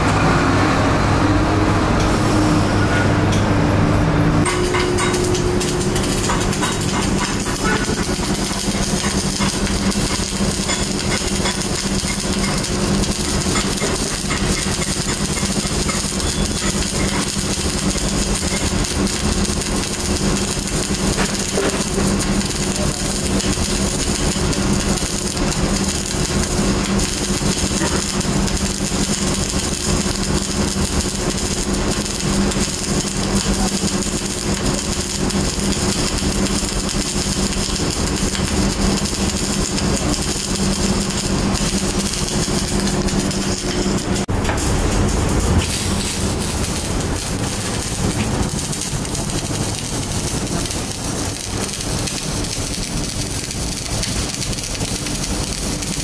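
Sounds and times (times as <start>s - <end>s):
welding arc crackling: 4.4s - 56.0s.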